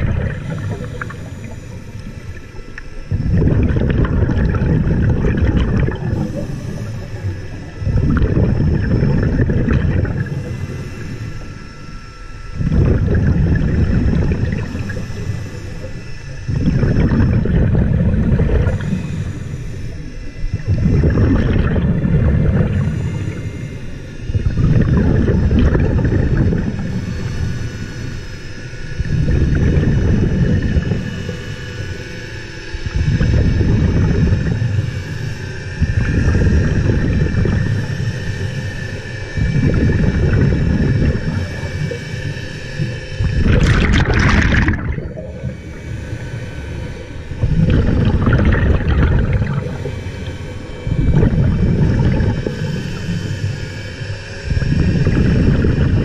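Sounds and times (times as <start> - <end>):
exhaled bubbles rumbling: 0.0 - 56.0.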